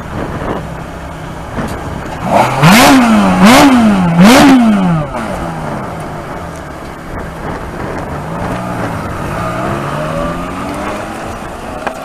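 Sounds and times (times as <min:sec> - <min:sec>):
car engine idling: 0:00.0 - 0:12.0
engine revving: 0:01.6 - 0:12.0.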